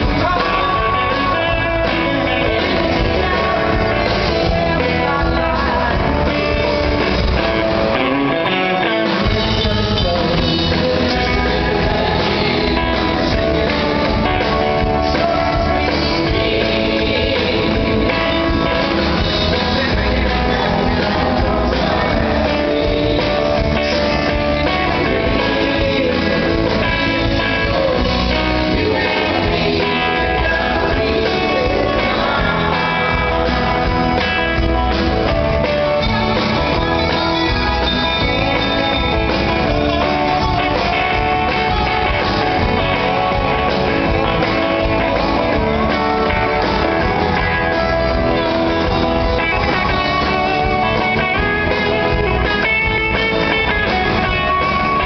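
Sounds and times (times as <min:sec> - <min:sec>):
drum kit: 0:00.0 - 0:55.0
electric guitar: 0:00.0 - 0:55.0
person singing: 0:00.0 - 0:55.0.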